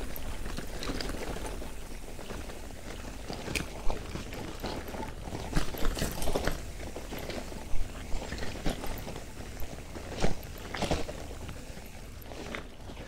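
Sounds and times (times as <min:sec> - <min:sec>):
bicycle rumbling over bumpy ground: 0:00.0 - 0:13.0
bike and bags rattling: 0:00.0 - 0:13.0.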